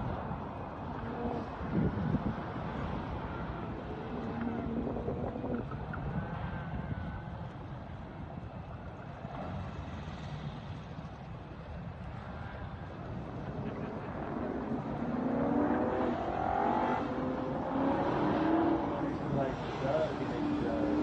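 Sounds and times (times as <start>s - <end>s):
wind noise on microphone: 0.0s - 18.9s.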